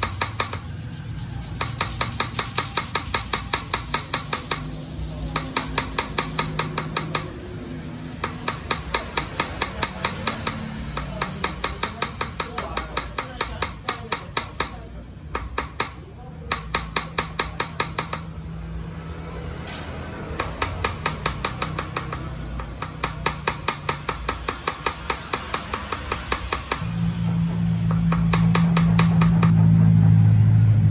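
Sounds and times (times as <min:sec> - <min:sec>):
hammer tapping metal punch: 0:00.0 - 0:00.8, 0:01.5 - 0:07.4, 0:08.1 - 0:18.8, 0:19.8 - 0:26.9, 0:27.8 - 0:29.9.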